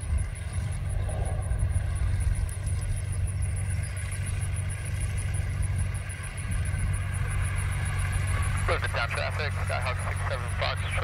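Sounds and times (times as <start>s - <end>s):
distant small plane engine rumble: 0.0s - 11.0s.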